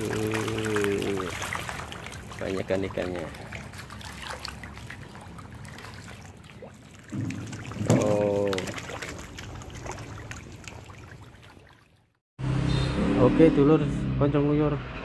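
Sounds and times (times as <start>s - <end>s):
pond water splashing and lapping: 0.0s - 12.2s
small splashes and clicks: 0.0s - 12.2s.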